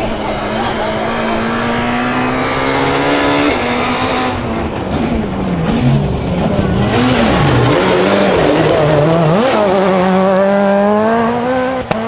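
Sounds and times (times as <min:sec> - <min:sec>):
gravel and tyre noise: 0:00.0 - 0:12.0
rally car engine working hard: 0:00.0 - 0:12.0.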